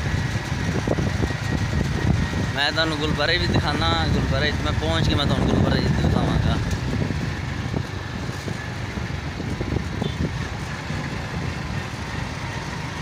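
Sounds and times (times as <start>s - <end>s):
low wind buffeting: 0.0s - 13.0s
road vehicle rumble: 0.0s - 13.0s.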